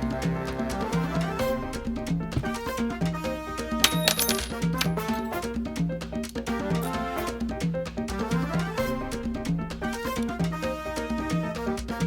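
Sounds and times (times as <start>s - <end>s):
upbeat latin instrumental music: 0.3s - 12.0s.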